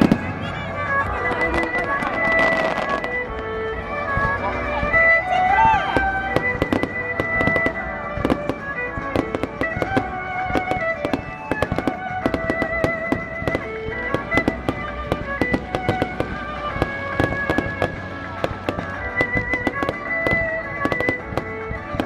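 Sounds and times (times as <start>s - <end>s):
fireworks bangs and crackles: 0.0s - 22.0s
music with long held notes: 0.0s - 22.0s.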